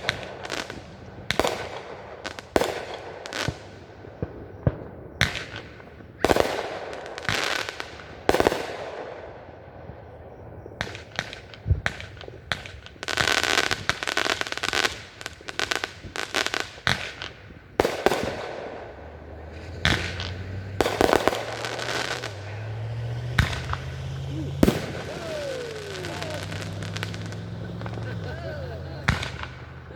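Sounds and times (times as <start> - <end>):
fireworks crackling: 0.0 - 29.9.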